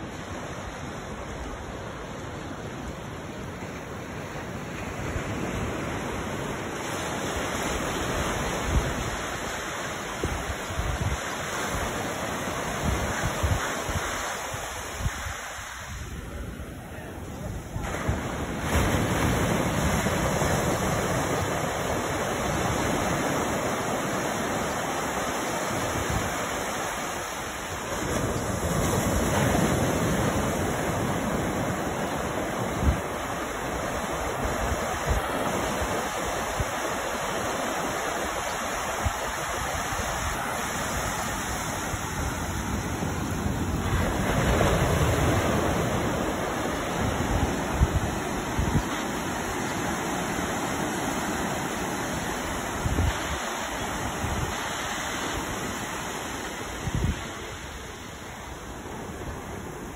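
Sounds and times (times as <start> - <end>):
waves breaking: 0.0 - 59.9
foamy wash running up sand: 3.9 - 59.9.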